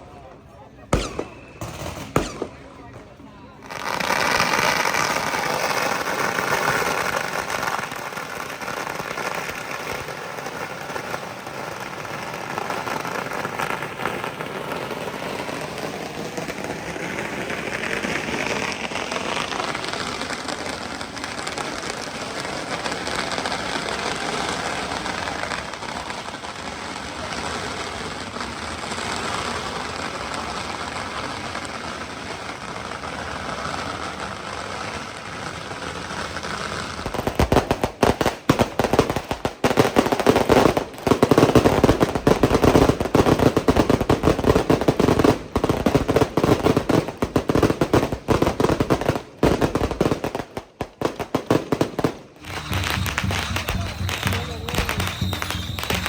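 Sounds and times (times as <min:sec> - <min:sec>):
firecrackers cracking: 0:00.0 - 0:56.0.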